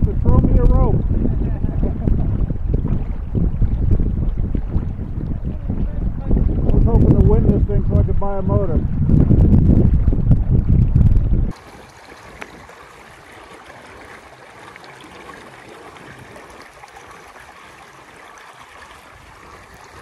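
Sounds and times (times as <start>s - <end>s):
water trickling and gurgling: 0.0s - 7.9s, 9.0s - 20.0s
wind buffeting microphone: 0.0s - 20.0s.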